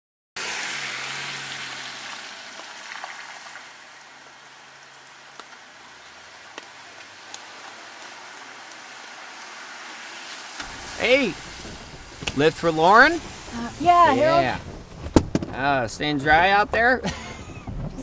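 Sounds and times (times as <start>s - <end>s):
car passing on wet road: 0.4s - 15.0s
rain hissing on wet street: 0.4s - 15.0s.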